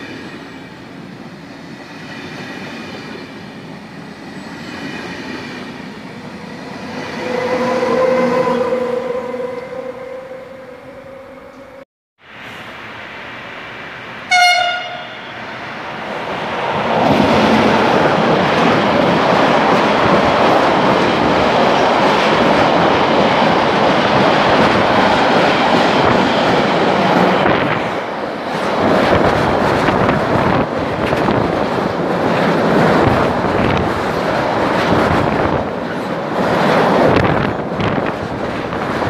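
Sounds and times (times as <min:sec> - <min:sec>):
train wheels rumbling on rails: 0:00.0 - 0:09.2, 0:14.6 - 0:39.0.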